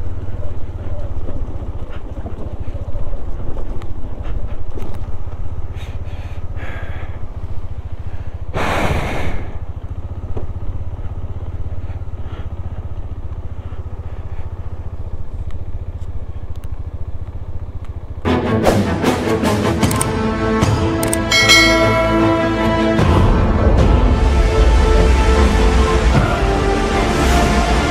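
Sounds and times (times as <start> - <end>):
motorcycle engine running at low speed: 0.0 - 27.9.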